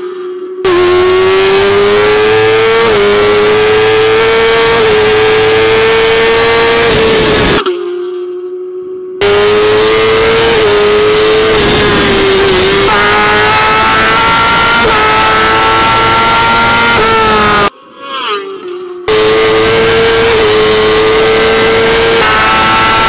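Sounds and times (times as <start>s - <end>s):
motorbike engine revving high: 0.6s - 7.6s, 9.2s - 17.7s, 19.0s - 23.0s.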